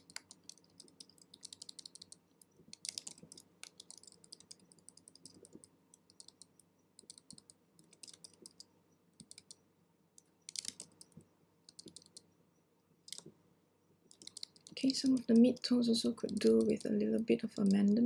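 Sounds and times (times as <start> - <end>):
computer keyboard clicks: 0.0 - 9.6, 10.2 - 12.3, 13.1 - 13.3, 14.1 - 18.0.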